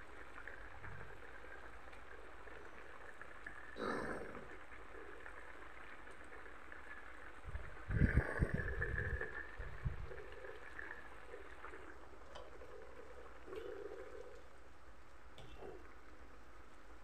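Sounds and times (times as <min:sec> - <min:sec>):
stew bubbling: 0:00.0 - 0:17.0.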